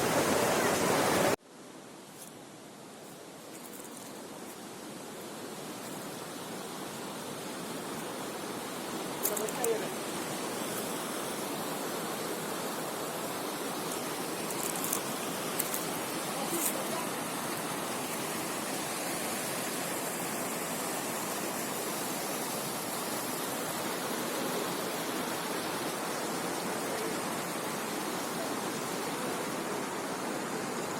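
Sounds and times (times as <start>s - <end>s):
waterfall rushing: 0.0s - 1.4s, 5.4s - 30.9s.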